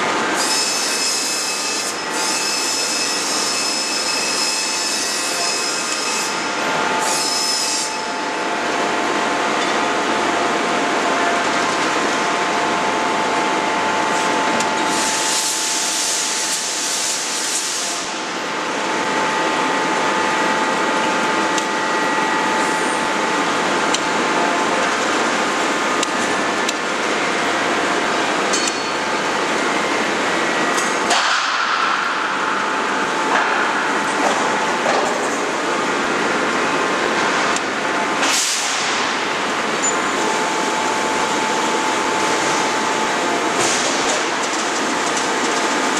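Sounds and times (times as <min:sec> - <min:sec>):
hydraulic machine hum and whine: 0:00.0 - 0:45.9.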